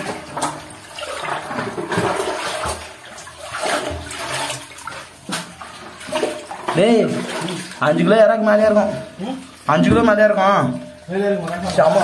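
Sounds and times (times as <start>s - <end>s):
muddy water splashing and sloshing: 0.0s - 12.0s.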